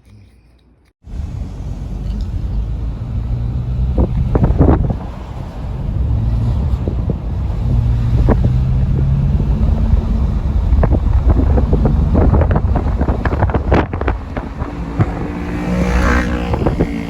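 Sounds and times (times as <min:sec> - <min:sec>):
vehicle engine running: 0:01.0 - 0:17.0
wind buffeting microphone: 0:01.2 - 0:17.0.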